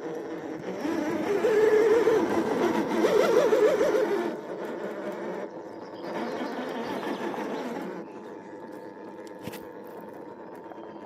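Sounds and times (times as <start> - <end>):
electric motor and gearbox whining: 0.0 - 11.0.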